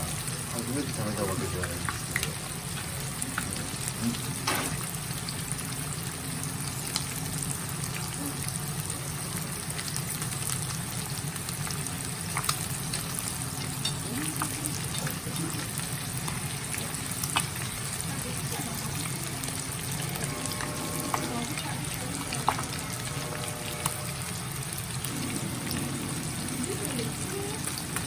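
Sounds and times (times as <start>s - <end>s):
fish deep-frying in oil: 0.0s - 28.0s.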